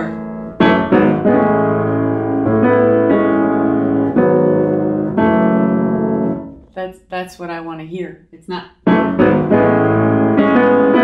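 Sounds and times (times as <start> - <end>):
piano playing slow chords: 0.0 - 6.7, 8.8 - 11.0.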